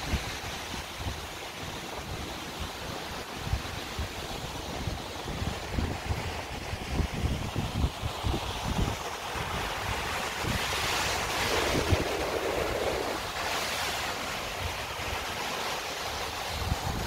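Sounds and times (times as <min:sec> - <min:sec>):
ocean surf breaking on rocks: 0:00.0 - 0:17.0
wind gusting on microphone: 0:00.0 - 0:17.0.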